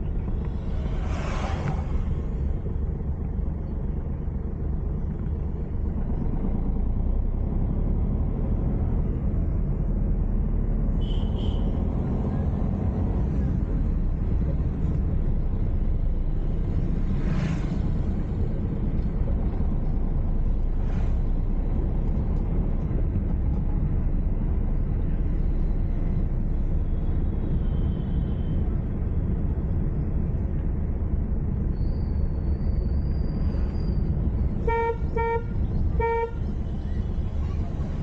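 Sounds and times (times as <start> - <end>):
car engine and tyres rumble: 0.0 - 38.0.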